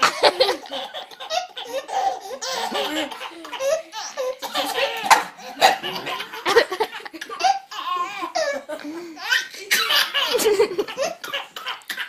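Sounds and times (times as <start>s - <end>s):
baby laughing: 0.0s - 12.0s.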